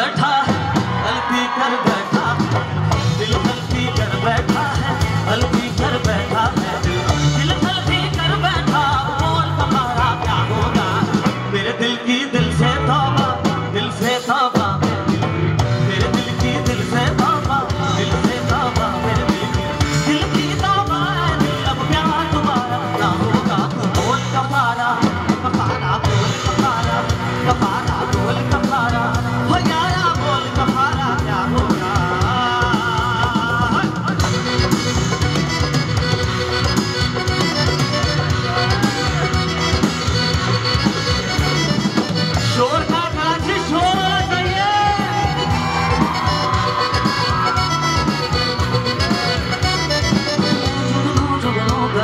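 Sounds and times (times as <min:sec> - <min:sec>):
keyboard and drums: 0:00.0 - 0:52.0
man singing: 0:00.0 - 0:52.0.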